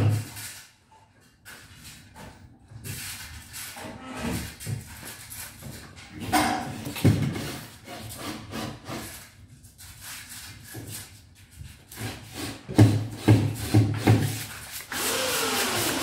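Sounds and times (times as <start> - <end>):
hand tool scraping wood: 2.8 - 16.0.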